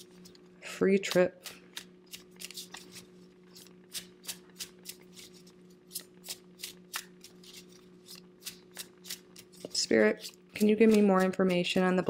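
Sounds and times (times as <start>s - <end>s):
cards being shuffled: 1.1s - 12.0s.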